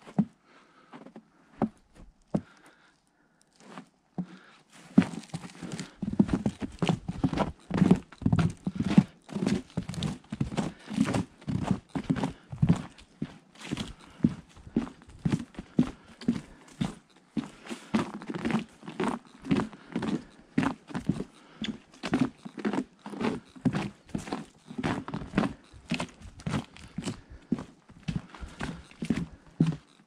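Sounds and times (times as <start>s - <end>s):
boots crunching in snow: 4.4s - 30.0s.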